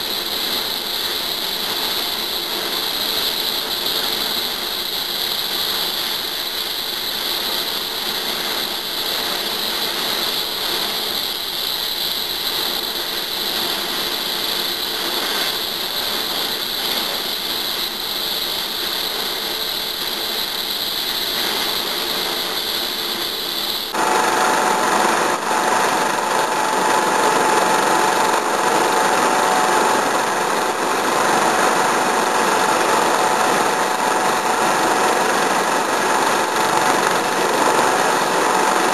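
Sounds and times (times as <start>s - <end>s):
helicopter turbines and rotors: 0.0s - 38.9s.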